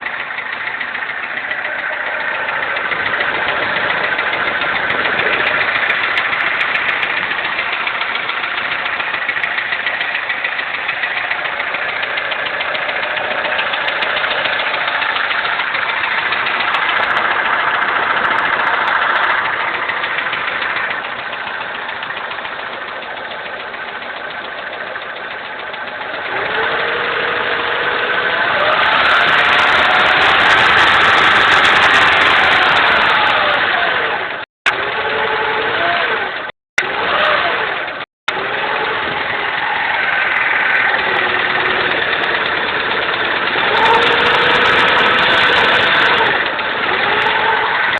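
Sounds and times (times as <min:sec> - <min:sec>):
car engine running: 0:00.0 - 0:47.9
rapid engine knock: 0:00.0 - 0:47.9.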